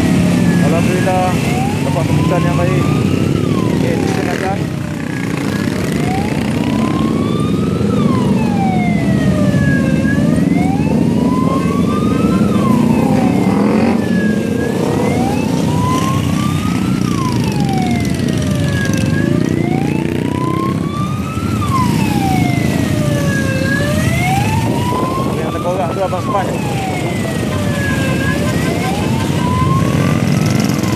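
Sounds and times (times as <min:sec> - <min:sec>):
motorcycle engines rumbling: 0:00.0 - 0:30.9
siren wailing: 0:00.0 - 0:30.9.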